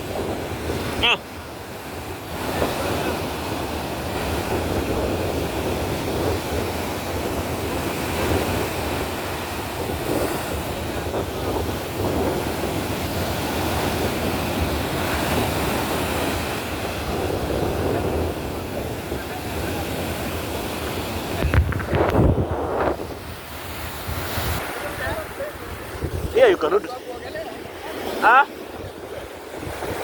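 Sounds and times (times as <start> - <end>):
ocean waves washing in: 0.0 - 30.0
wind buffeting microphone: 0.0 - 30.0.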